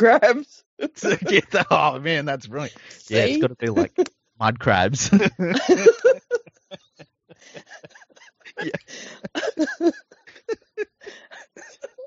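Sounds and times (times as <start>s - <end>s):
people laughing: 0.8s - 12.0s.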